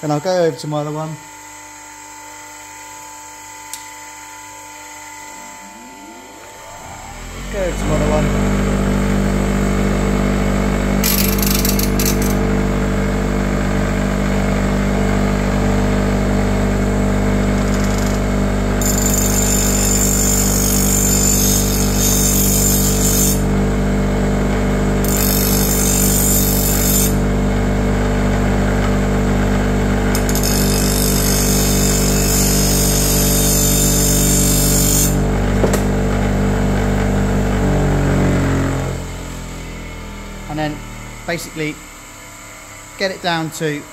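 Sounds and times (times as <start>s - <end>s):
bench grinder running: 3.7s - 43.9s.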